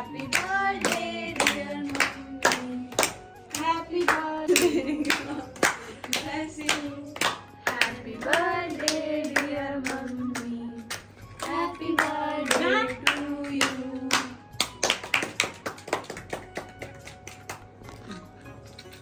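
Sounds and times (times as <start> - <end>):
group clapping in rhythm: 0.0 - 17.8.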